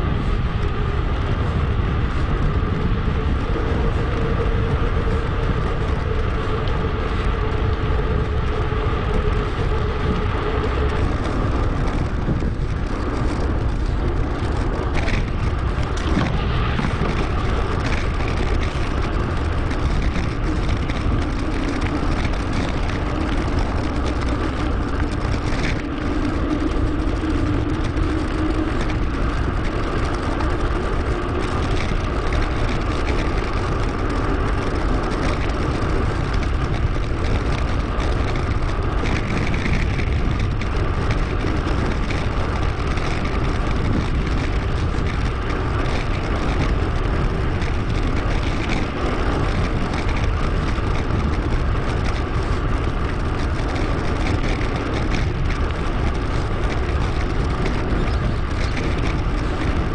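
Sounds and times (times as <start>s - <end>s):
tyre rumble on road: 0.0s - 59.9s
wind rush: 0.0s - 59.9s.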